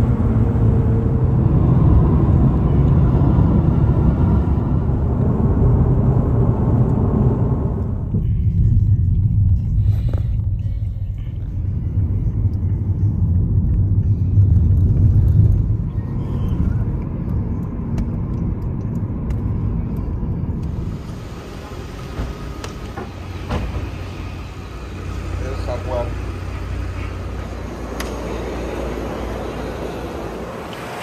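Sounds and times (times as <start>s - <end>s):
vehicle rumble from inside: 0.0s - 31.0s.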